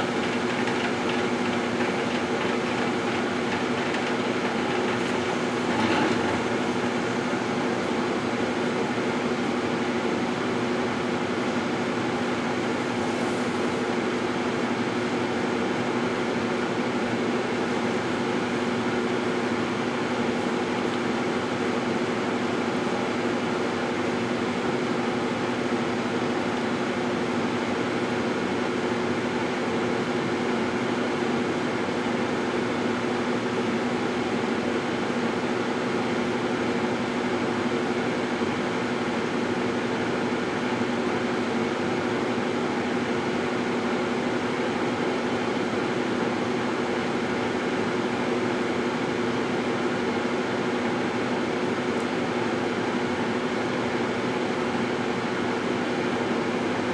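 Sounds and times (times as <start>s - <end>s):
fan noise: 0.0s - 56.9s
microwave oven humming: 0.0s - 56.9s.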